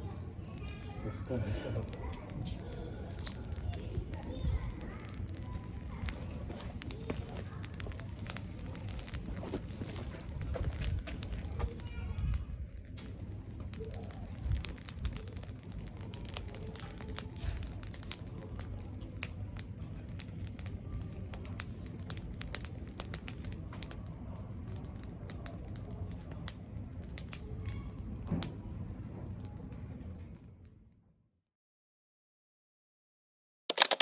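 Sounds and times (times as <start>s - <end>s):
campfire crackling and popping: 0.0s - 29.6s.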